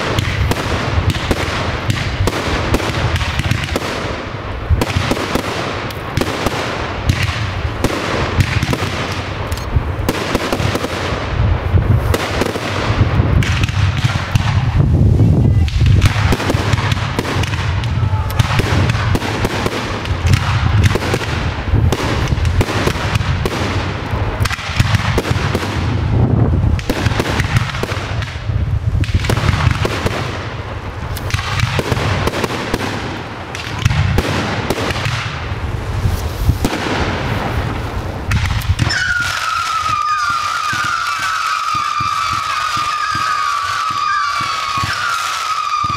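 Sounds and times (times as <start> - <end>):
fireworks shells launching and bursting: 0.0 - 45.9.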